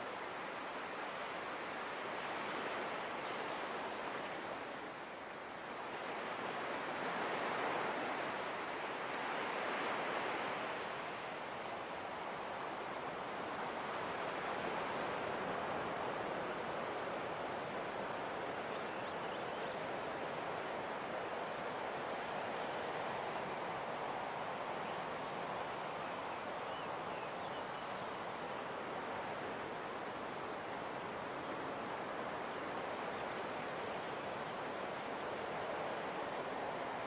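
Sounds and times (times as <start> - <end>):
ocean surf on a beach: 0.0 - 37.0.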